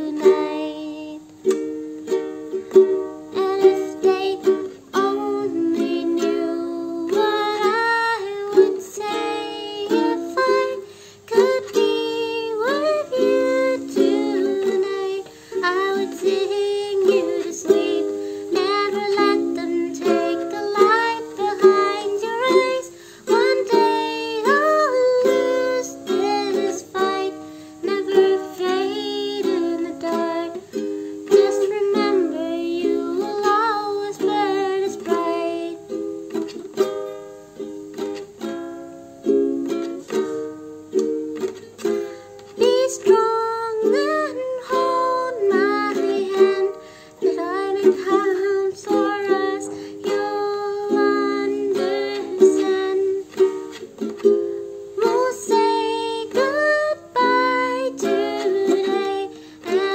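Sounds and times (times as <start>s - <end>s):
woman singing: 0.0s - 37.0s, 39.6s - 59.9s
ukulele strumming: 0.0s - 59.9s.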